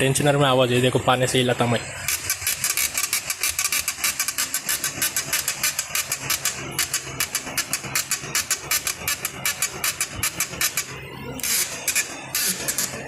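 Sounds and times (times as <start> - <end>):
fast even ticking of belt tensioner: 2.1 - 13.0.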